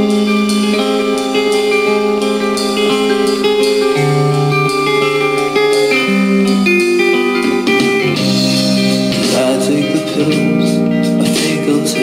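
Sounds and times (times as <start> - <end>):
guitar song from portable speaker: 0.0 - 12.0.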